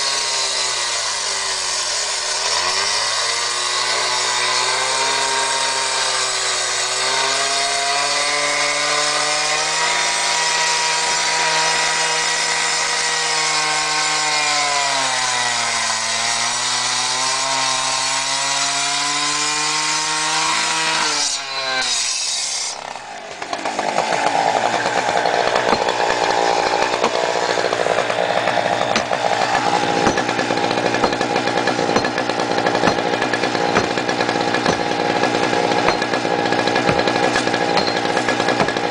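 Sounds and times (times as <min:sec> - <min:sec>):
rescue saw cutting concrete: 0:00.0 - 0:38.9.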